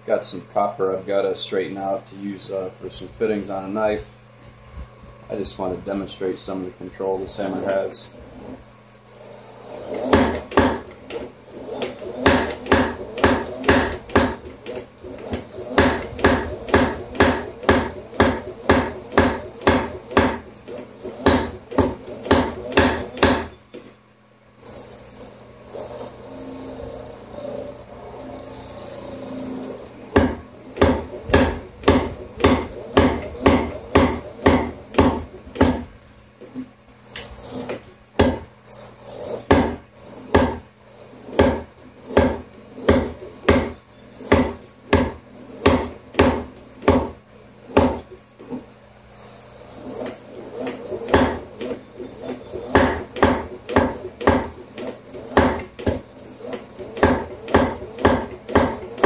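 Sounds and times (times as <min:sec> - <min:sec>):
motor hum: 0:00.0 - 0:59.0.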